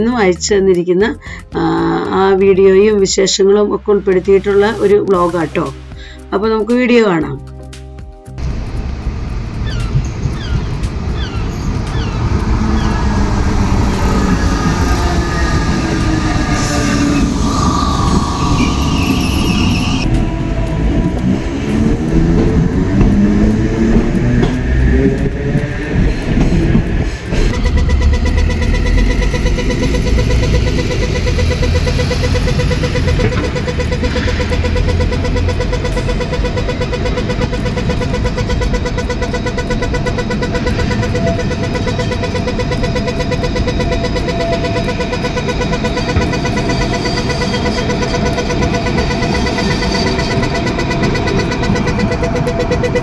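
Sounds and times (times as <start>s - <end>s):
crossing signal beeping rapidly: 0.0s - 7.5s, 9.6s - 26.7s, 27.4s - 53.0s
train wheels rumbling on rails: 8.4s - 53.0s
high wheel squeal: 9.6s - 53.0s.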